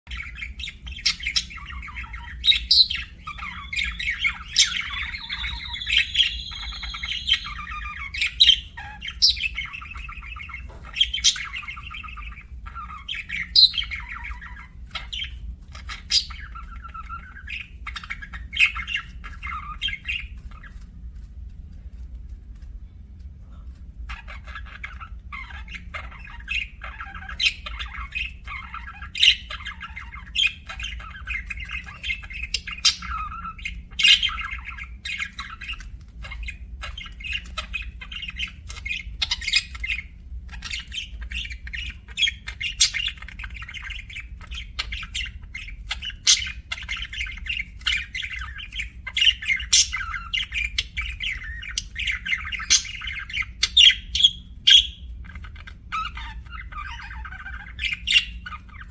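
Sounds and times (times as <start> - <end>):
budgerigars chattering and chirping: 0.1 - 22.2, 23.8 - 58.9.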